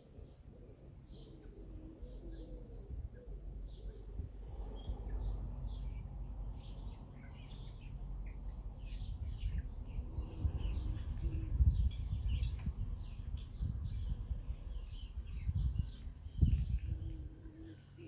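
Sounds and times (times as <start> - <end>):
small birds chirping: 0.0 - 18.0
low uneven rumble: 2.0 - 18.0.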